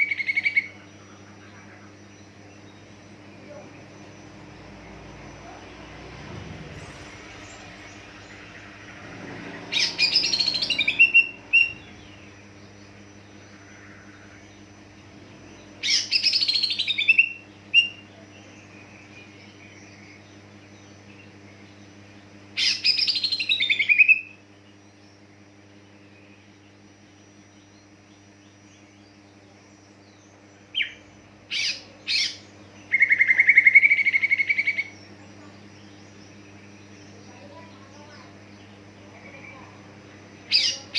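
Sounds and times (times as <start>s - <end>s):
bird high chattering song: 0.0s - 25.4s, 27.6s - 40.9s
steady low hum: 0.0s - 40.9s.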